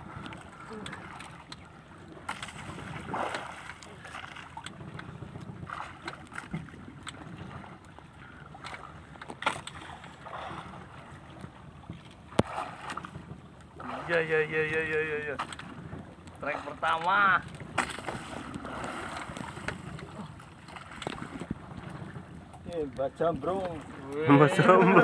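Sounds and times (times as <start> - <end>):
wind and water around hull: 0.0 - 25.0.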